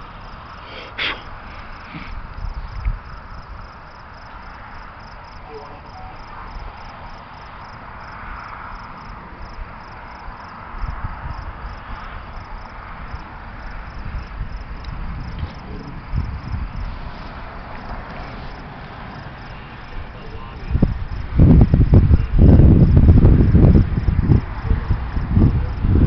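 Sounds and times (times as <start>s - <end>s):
background hiss: 0.0s - 21.6s
crickets chirping: 0.0s - 26.0s
low gusty rumbling: 0.0s - 26.0s.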